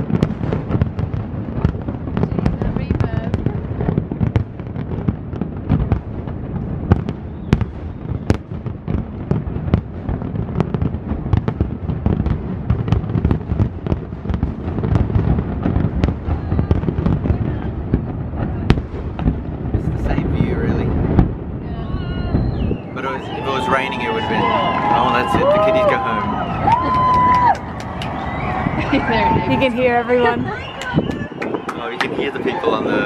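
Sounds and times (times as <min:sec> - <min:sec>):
fireworks booms: 0:00.0 - 0:33.0
sharp fireworks cracks: 0:00.0 - 0:33.0.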